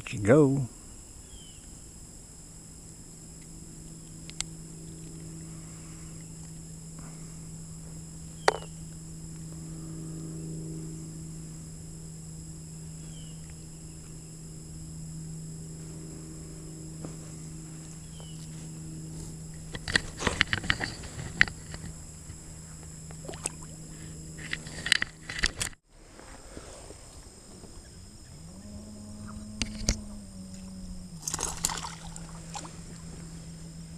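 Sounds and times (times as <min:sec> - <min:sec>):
crickets and katydids droning: 0:00.0 - 0:33.9
low hum: 0:00.0 - 0:33.9.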